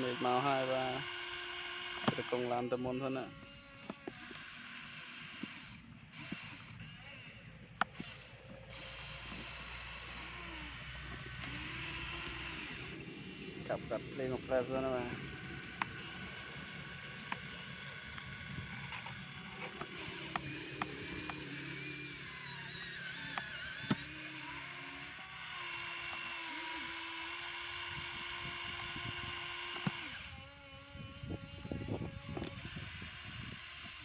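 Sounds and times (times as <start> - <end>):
toy truck motors whining: 0.0 - 34.0.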